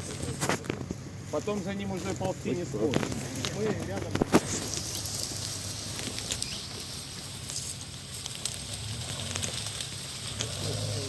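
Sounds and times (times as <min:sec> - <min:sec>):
light crackles and clicks: 0:00.0 - 0:11.0.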